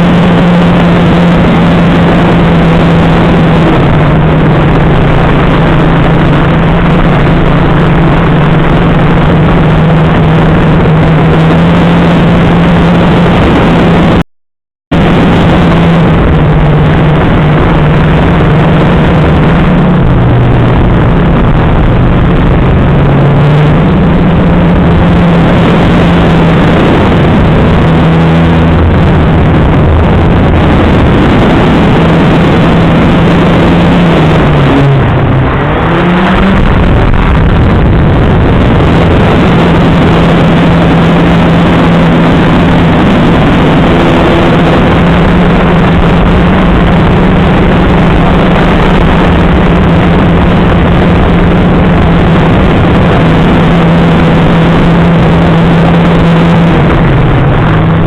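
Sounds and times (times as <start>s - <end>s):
rush of air on microphone: 0.0s - 14.2s, 14.9s - 58.0s.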